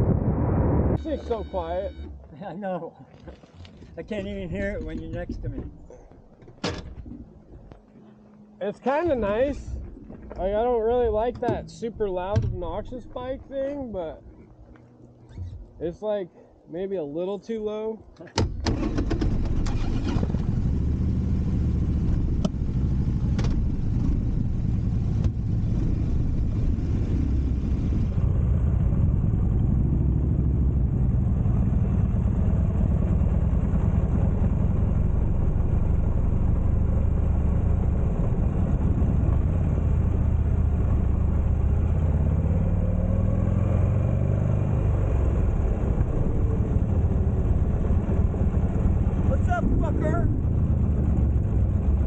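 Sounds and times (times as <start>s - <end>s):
motorcycle engine rumbling: 0.0s - 16.0s, 18.4s - 52.0s.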